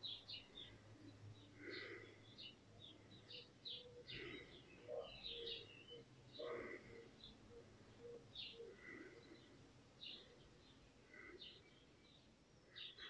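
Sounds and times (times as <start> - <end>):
faint birdsong chirps: 0.0 - 13.0.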